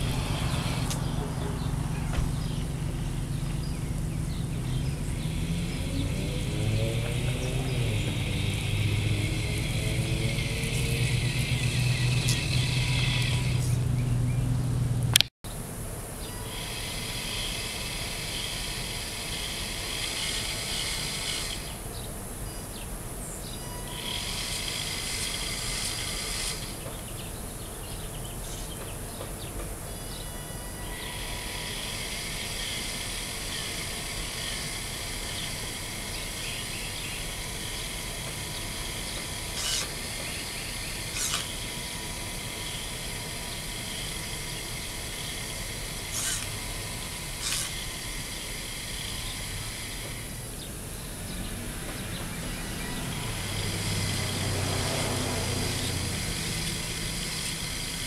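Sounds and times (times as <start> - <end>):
outdoor background noise: 0.0 - 58.0.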